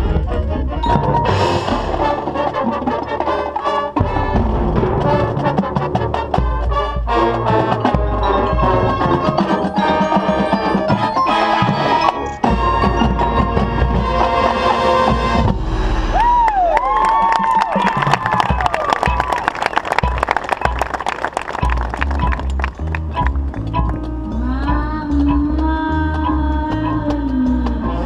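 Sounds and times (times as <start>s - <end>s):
mallet percussion: 0.0s - 15.6s, 17.8s - 28.0s
marching band playing: 0.0s - 15.8s, 16.8s - 28.0s.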